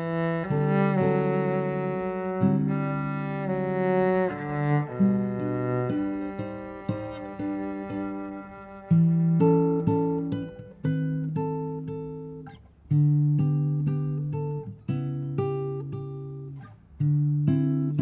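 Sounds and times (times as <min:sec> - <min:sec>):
nylon-string guitar fingerpicking: 0:00.0 - 0:18.0.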